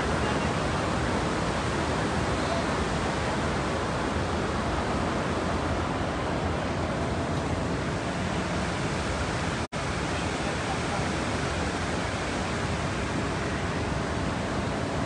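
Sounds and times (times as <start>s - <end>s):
outdoor rushing hiss with rumble: 0.0s - 15.0s.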